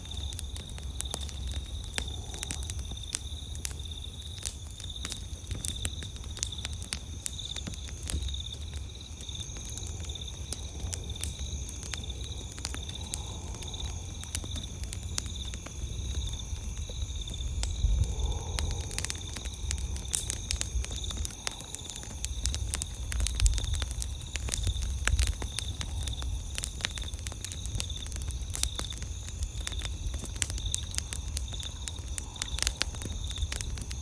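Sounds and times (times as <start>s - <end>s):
campfire crackling and popping: 0.0s - 34.0s
night insects chirping: 0.0s - 34.0s.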